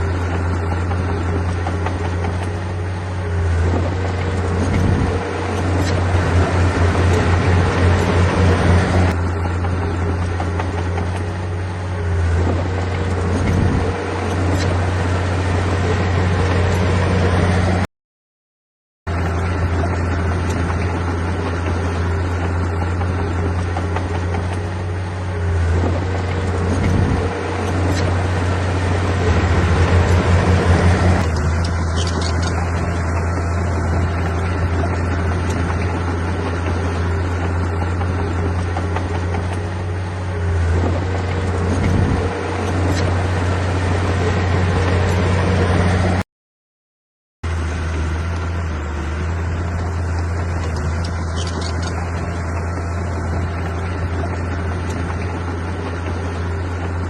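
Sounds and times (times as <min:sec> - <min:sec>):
heavy machine diesel engine droning: 0:00.0 - 0:17.9, 0:19.1 - 0:46.2, 0:47.4 - 0:57.0.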